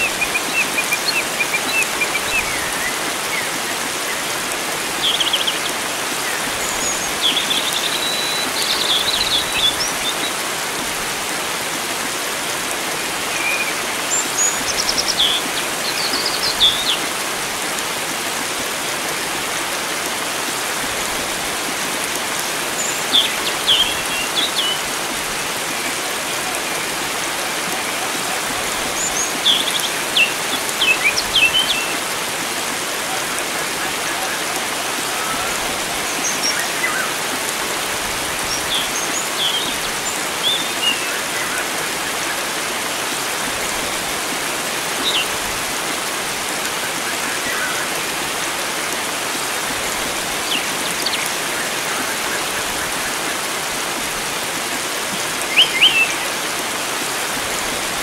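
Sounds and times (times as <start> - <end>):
flowing water rushing: 0.0 - 58.0
songbirds chirping: 0.0 - 58.0.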